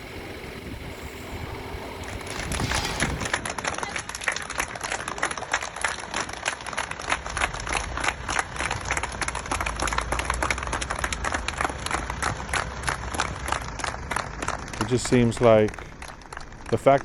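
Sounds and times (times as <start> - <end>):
crowd clapping: 2.3 - 17.0.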